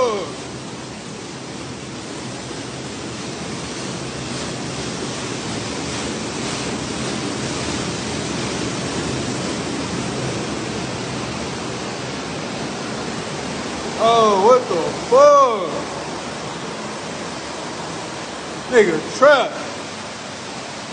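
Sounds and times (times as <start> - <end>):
water rushing down concrete stairs: 0.0 - 20.9.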